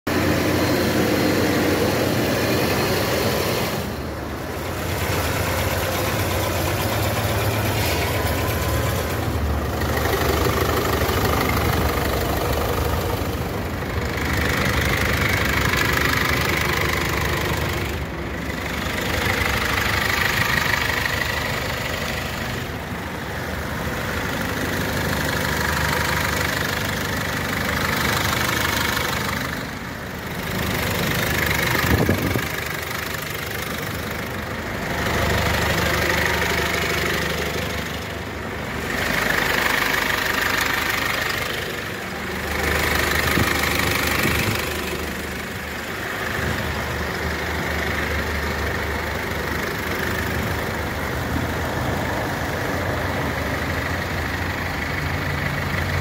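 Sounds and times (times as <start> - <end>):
car petrol engines idling: 0.1 - 56.0.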